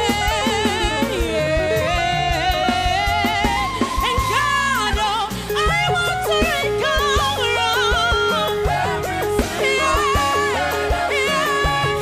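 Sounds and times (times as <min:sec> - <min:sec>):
keyboard: 0:00.0 - 0:12.0
person singing gospel melody: 0:00.0 - 0:12.0
steady drum beat: 0:00.0 - 0:12.0.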